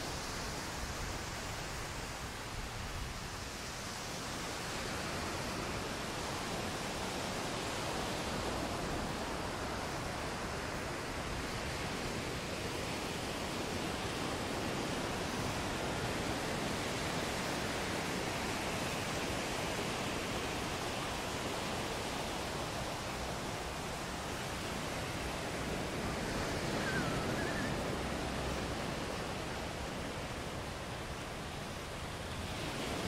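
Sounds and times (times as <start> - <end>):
surf breaking on beach: 4.2 - 33.0.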